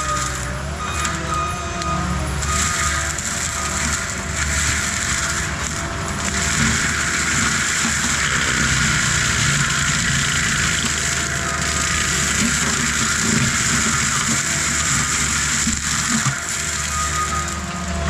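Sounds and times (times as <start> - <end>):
diesel engine working hard: 0.0 - 18.0
mulcher drum grinding brush: 2.3 - 18.0.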